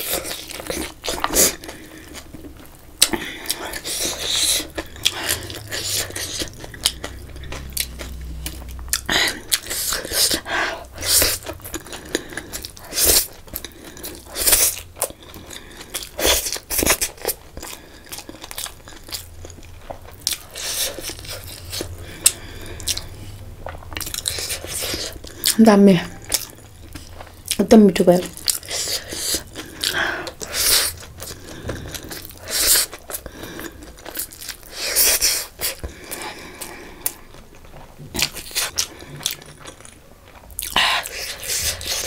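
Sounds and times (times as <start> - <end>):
slurping and chewing noodles: 0.0 - 27.6, 28.3 - 42.0.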